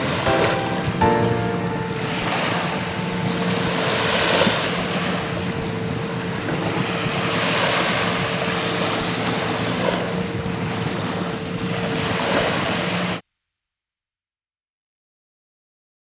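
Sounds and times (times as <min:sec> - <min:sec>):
ocean surf washing in: 0:00.0 - 0:13.2.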